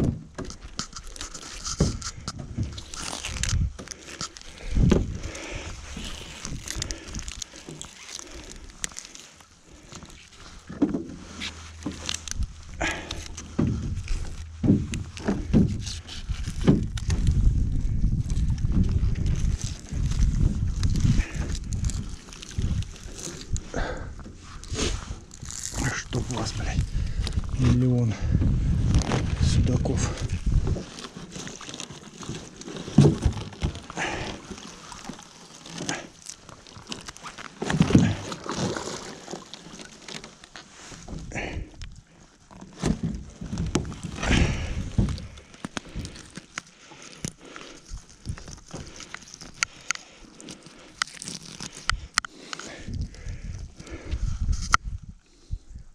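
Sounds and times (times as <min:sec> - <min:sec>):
wet net rustling: 0:00.4 - 0:27.9, 0:28.6 - 0:54.6.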